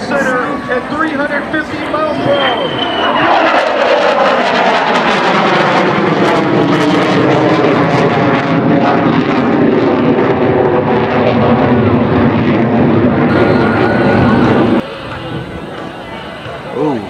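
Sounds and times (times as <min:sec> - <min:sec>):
fighter jet engines roaring: 0:00.0 - 0:17.0.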